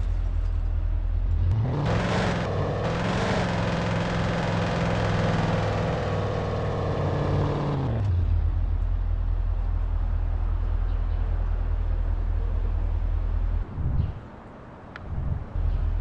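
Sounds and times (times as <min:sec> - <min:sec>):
car engine hum: 0:00.0 - 0:13.9
road noise: 0:00.0 - 0:16.0.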